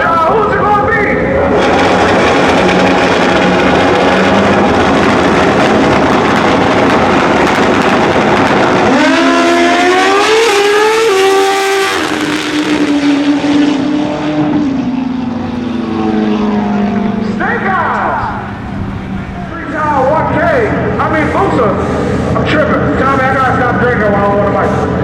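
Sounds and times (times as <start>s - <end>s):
motorcycles roaring at full throttle: 0.0s - 25.0s.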